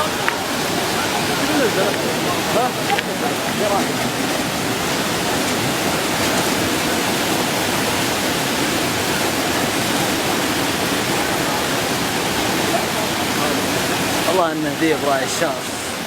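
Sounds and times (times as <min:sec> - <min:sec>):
flood water rushing: 0:00.0 - 0:16.0.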